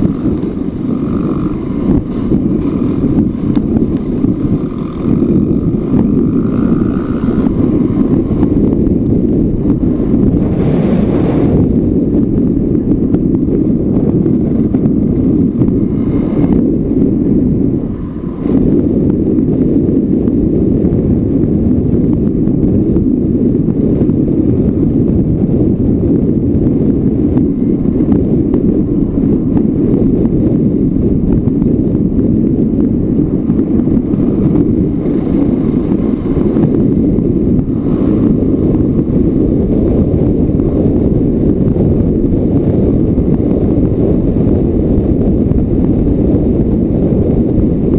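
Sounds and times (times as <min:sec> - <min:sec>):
wind rushing over microphone: 0:00.0 - 0:47.9.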